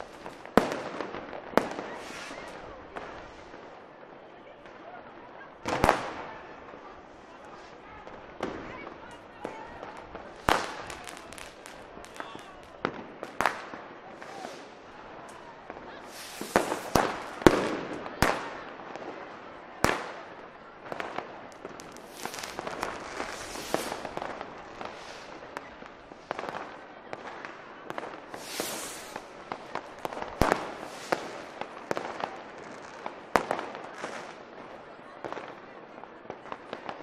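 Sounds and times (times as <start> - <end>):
firework bangs: 0.0 - 3.8, 5.6 - 35.7
firecrackers crackling: 0.0 - 37.0.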